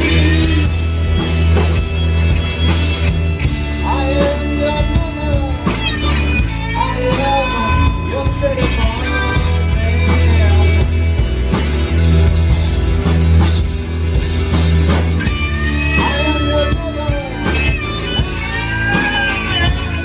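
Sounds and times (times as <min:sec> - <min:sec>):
electric guitar lead lines: 0:00.0 - 0:20.0
live rock band playing: 0:00.0 - 0:20.0.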